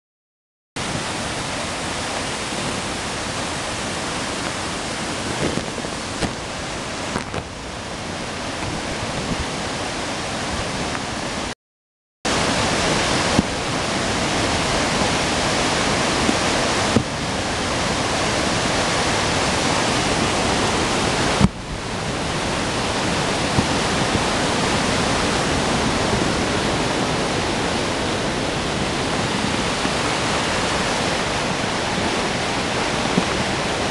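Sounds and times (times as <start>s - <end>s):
rain falling: 0.8s - 11.6s, 12.3s - 33.9s.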